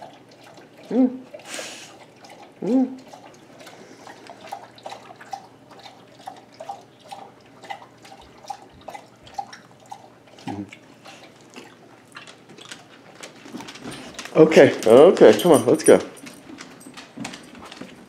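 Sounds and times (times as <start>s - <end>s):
dog lapping water from a bowl: 0.0s - 18.0s.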